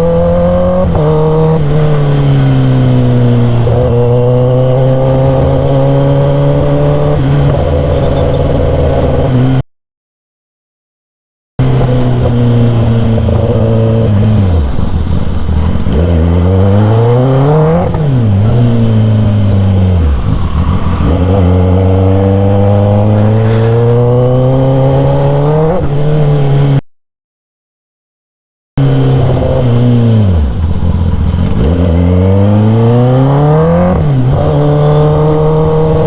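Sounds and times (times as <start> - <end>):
motorcycle engine revving: 0.0 - 9.6, 11.6 - 26.8, 28.8 - 36.0.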